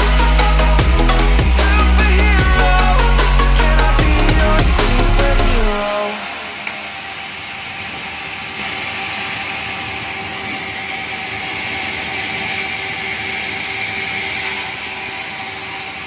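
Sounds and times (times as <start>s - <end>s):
sawmill machinery whine and hum: 0.0s - 16.0s.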